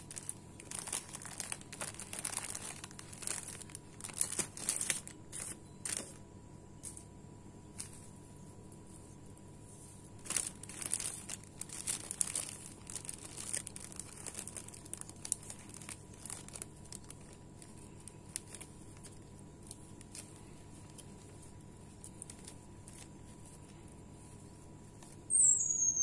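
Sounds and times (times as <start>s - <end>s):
plastic bags crinkling: 0.0s - 6.2s, 10.0s - 25.8s.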